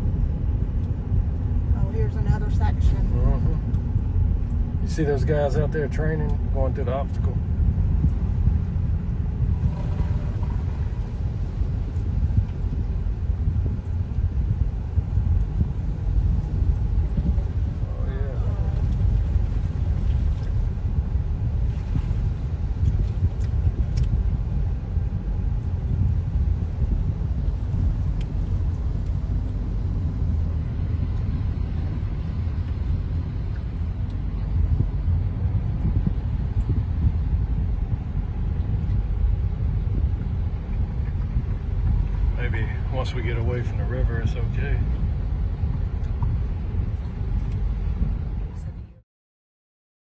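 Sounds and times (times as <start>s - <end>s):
vehicle driving rumble: 0.0s - 49.0s.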